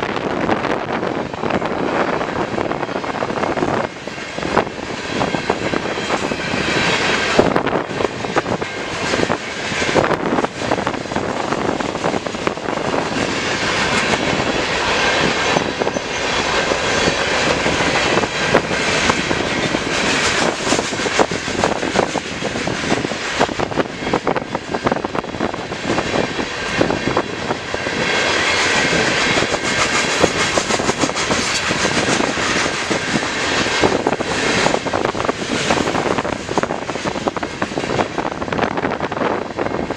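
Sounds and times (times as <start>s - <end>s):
freight train wheels on rail: 0.0s - 39.9s
train cars clicking and clattering: 0.0s - 39.9s.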